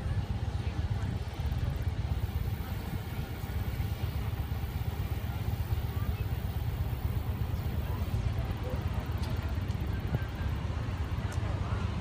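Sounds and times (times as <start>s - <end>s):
golf cart passing: 0.0s - 12.0s
traffic rumble: 0.0s - 12.0s.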